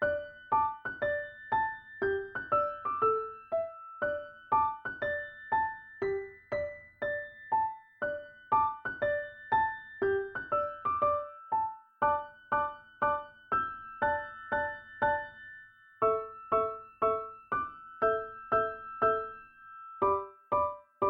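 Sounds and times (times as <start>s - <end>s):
simple melody of struck notes: 0.0s - 21.0s.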